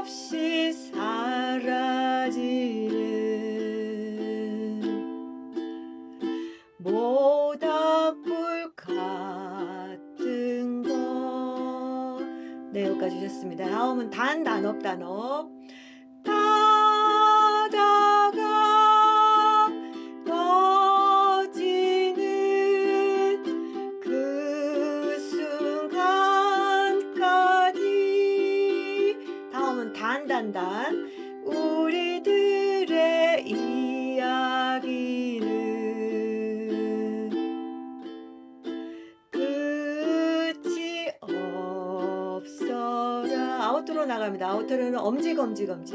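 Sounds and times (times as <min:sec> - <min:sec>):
person singing: 0:00.0 - 0:45.9
ukulele strumming: 0:00.0 - 0:45.9.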